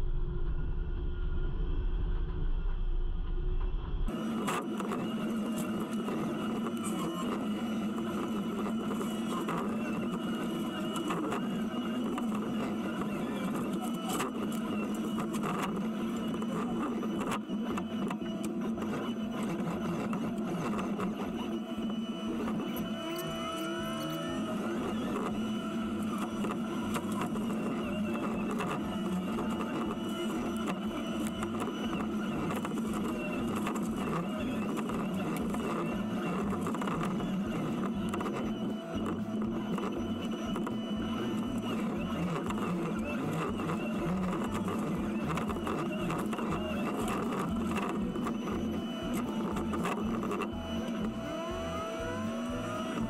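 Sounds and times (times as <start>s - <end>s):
diesel engine drone: 0.0s - 53.0s.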